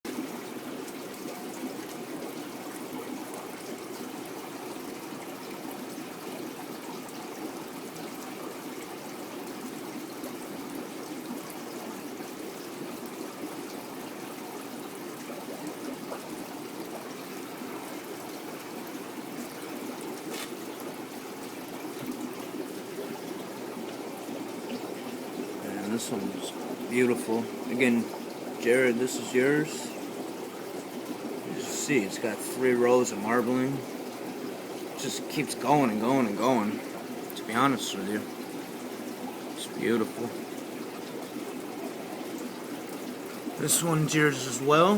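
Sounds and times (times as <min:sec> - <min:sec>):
faint ticks and splashes: 0:00.1 - 0:44.9
water trickling in aquarium: 0:00.1 - 0:44.9.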